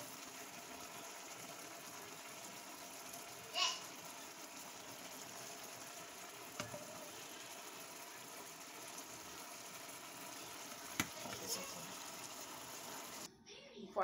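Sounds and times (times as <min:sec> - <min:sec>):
fish sizzling in a frying pan: 0:00.0 - 0:13.3.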